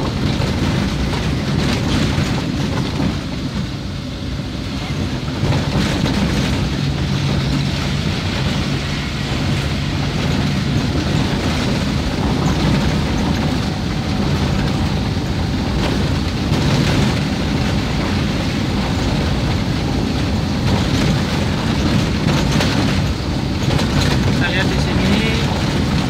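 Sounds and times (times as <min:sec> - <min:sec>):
tyre and road noise: 0:00.0 - 0:26.0
vehicle engine hum: 0:00.0 - 0:26.0.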